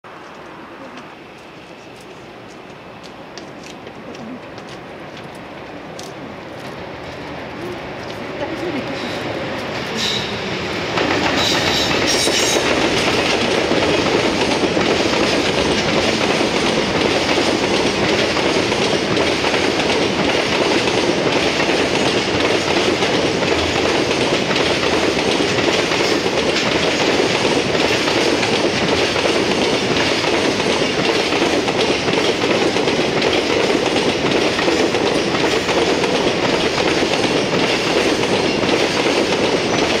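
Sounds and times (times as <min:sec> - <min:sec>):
train wheels clattering over rails: 0:00.1 - 0:40.0.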